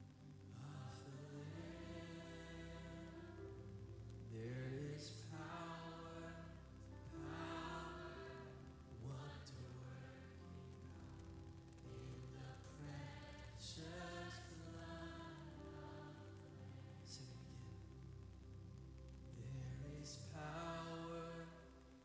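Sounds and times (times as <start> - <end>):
sustained low accompaniment: 0.0 - 22.0
group singing slow worship song: 0.5 - 11.2, 11.8 - 17.8, 19.4 - 21.8.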